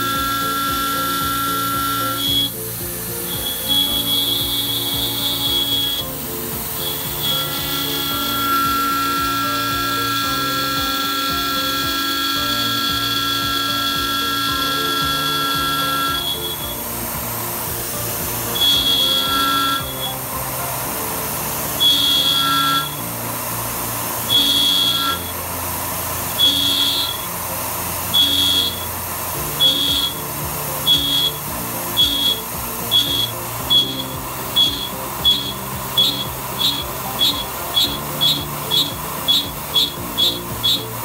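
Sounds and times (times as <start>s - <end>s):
cutter high-pitched whines: 0.0s - 41.0s
milling machine hum: 0.0s - 41.0s.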